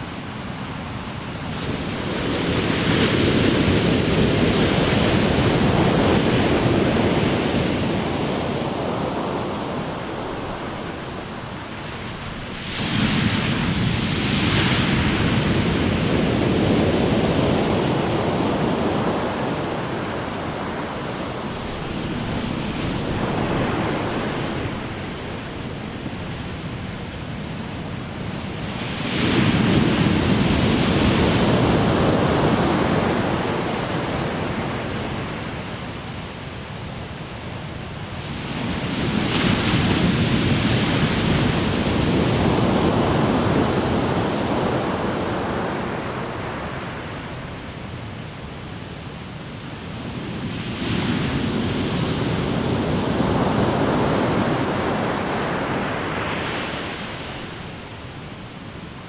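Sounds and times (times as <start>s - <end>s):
ocean waves crashing: 0.0s - 48.4s, 49.6s - 59.0s.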